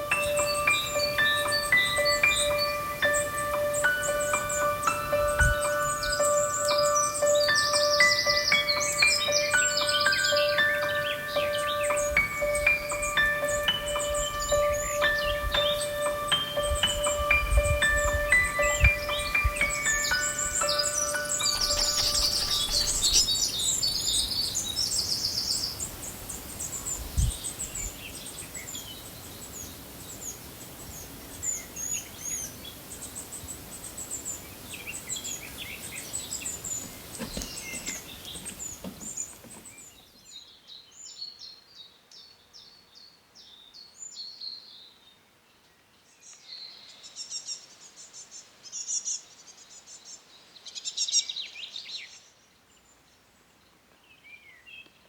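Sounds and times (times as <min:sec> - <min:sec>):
birds chirping and trilling: 0:00.0 - 0:45.0
steady background hiss: 0:00.0 - 0:55.0.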